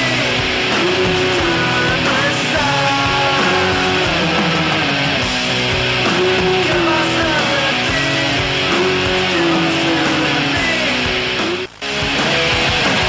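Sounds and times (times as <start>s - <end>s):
guitar-led music: 0.0s - 13.0s.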